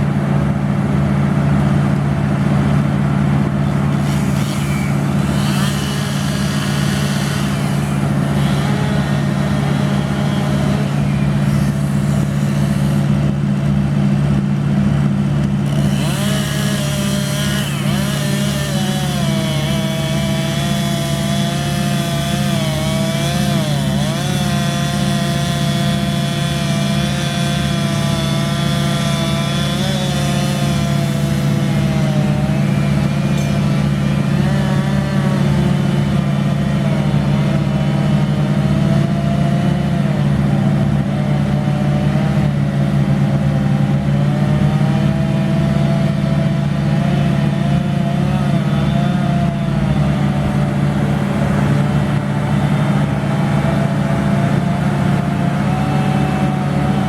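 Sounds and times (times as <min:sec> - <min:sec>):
large engine running: 0:00.0 - 0:57.0.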